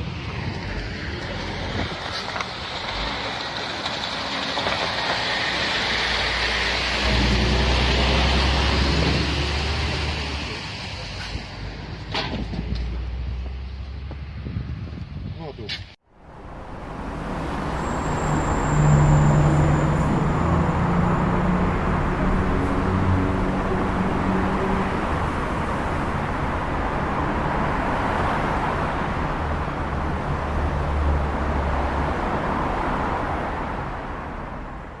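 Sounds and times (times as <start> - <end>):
vehicle noise: 0.0 - 35.0.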